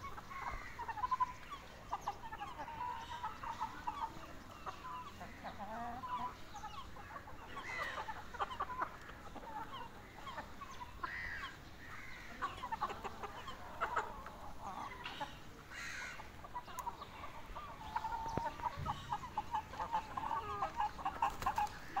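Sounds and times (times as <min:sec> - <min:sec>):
young chickens clucking: 0:00.0 - 0:22.0.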